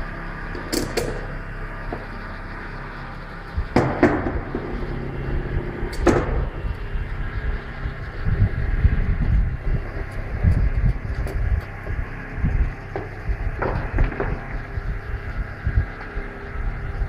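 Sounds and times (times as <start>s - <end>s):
low rumble: 0.0s - 17.0s
steady background noise: 0.0s - 17.0s.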